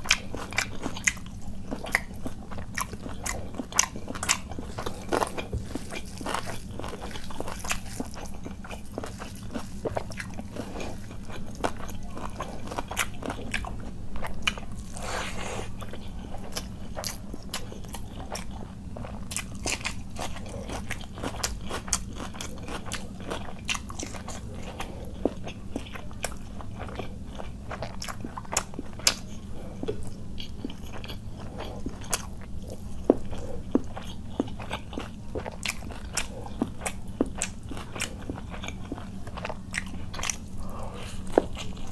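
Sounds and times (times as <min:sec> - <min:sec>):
wet chewing and lip smacks: 0:00.0 - 0:14.9, 0:15.8 - 0:41.9.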